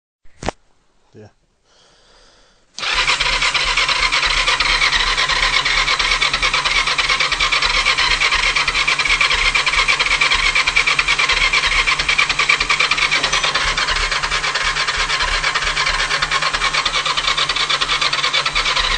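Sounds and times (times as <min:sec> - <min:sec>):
engine cranking on starter: 0:02.8 - 0:18.9.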